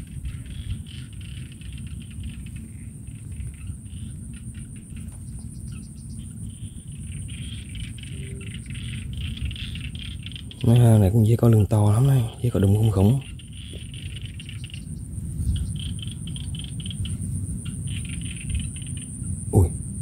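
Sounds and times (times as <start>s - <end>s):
insects trilling: 0.0s - 20.0s
low rumble: 0.0s - 20.0s.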